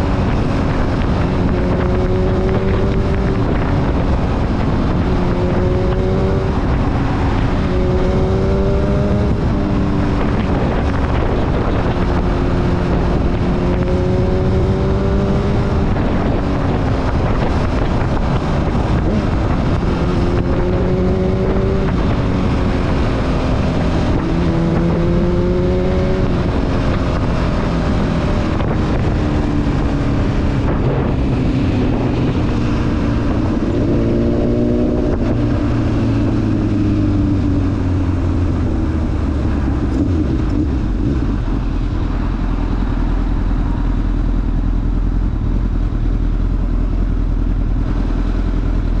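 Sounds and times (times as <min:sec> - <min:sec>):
motorcycle engine: 0:00.0 - 0:49.0
wind rushing over microphone: 0:00.0 - 0:49.0.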